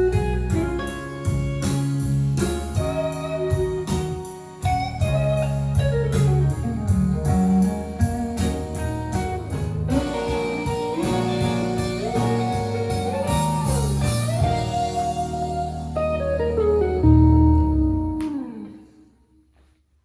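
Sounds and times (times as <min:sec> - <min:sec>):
guitar music over steady beat: 0:00.0 - 0:19.0.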